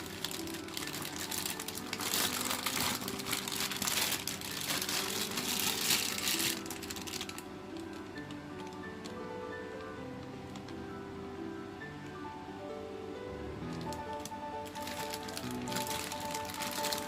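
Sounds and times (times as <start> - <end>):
packaging crinkling and rustling: 0.0 - 10.8, 13.6 - 17.0
faint background music: 0.0 - 17.0.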